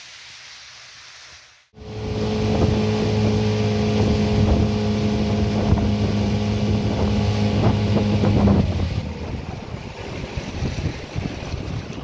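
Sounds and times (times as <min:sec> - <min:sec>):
outboard motor humming: 0:01.8 - 0:12.0
wind on microphone: 0:01.8 - 0:12.0.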